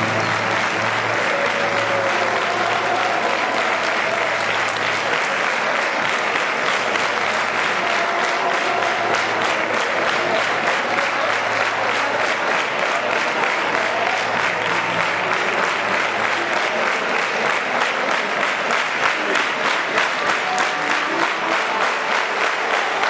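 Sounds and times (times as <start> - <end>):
audience applauding: 0.0 - 23.0
faint orchestral music: 0.0 - 23.0.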